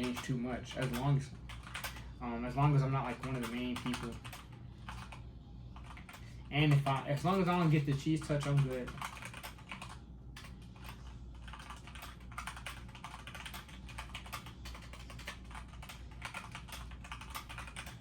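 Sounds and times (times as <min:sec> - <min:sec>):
fast keyboard typing: 0:00.0 - 0:18.0.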